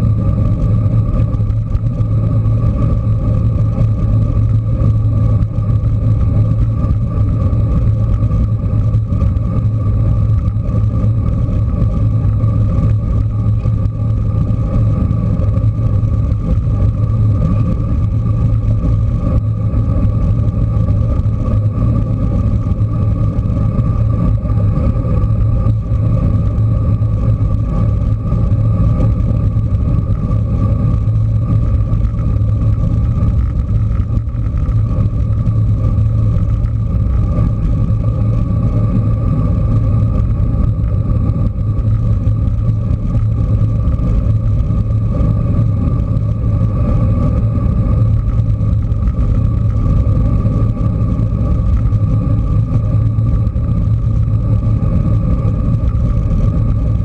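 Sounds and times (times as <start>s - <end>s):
constant low hum: 0.0s - 57.0s
wind rumbling on microphone: 0.0s - 57.0s.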